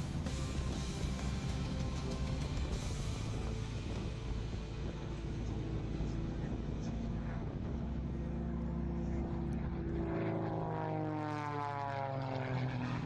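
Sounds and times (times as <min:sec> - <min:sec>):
propeller plane flying past: 0:00.0 - 0:13.0.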